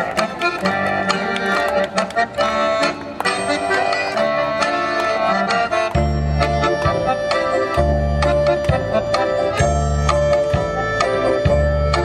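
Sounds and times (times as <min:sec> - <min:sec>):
accordion folk dance music: 0:00.0 - 0:12.0.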